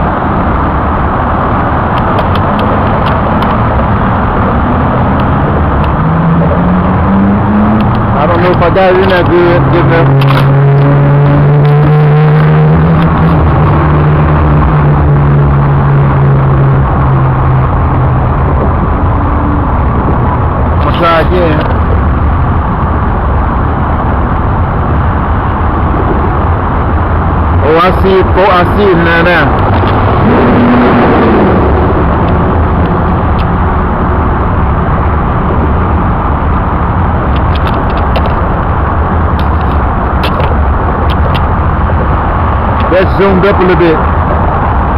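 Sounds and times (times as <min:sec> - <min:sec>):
vehicle engine droning: 0:00.0 - 0:44.9.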